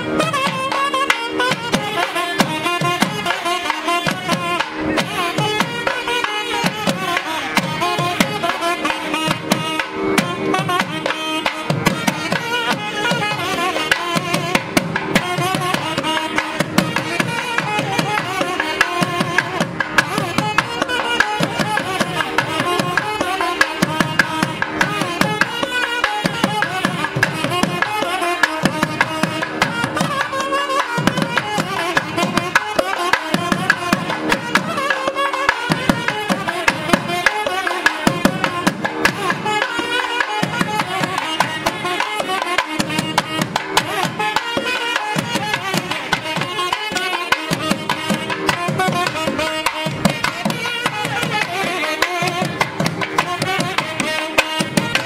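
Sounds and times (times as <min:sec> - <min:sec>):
fast steady drumming: 0:00.0 - 0:55.0
wavering melody: 0:00.0 - 0:55.0.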